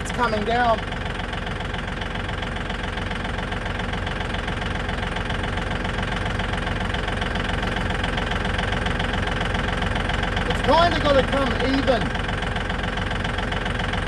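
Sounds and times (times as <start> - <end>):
tractor engine running at low revs: 0.0 - 14.0.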